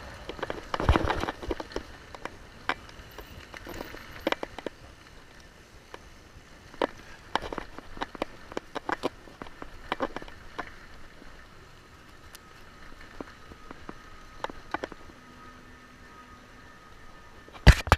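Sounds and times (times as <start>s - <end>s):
bike knocking and rattling: 0.0s - 17.9s.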